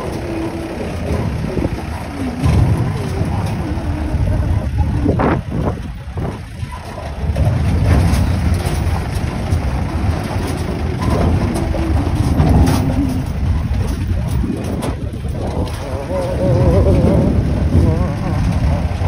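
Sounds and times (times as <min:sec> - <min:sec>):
knocks and rattles: 0:00.0 - 0:19.0
vehicle engine rumbling: 0:00.0 - 0:19.0.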